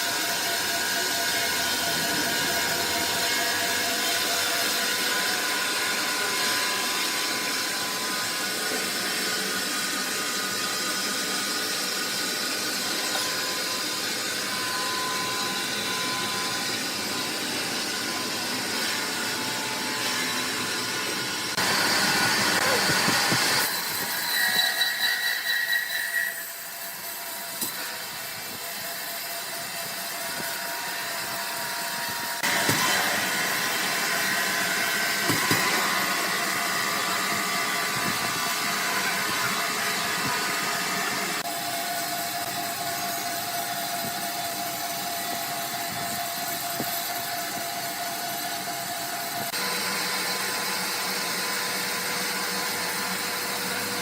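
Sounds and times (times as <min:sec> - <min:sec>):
sawmill machinery running: 0:00.0 - 0:54.0
whining saws and conveyors: 0:00.0 - 0:54.0.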